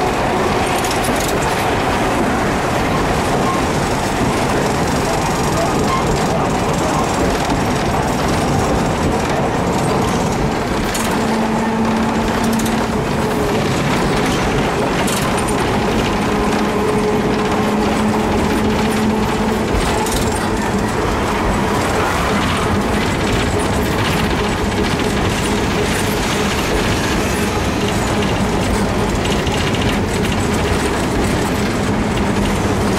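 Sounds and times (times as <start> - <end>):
tram wheels rumbling: 0.0 - 32.9.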